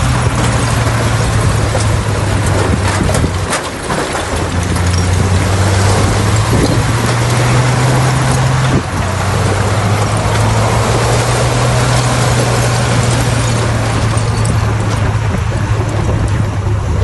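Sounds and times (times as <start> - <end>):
bulldozer diesel engine running hard: 0.0 - 17.0.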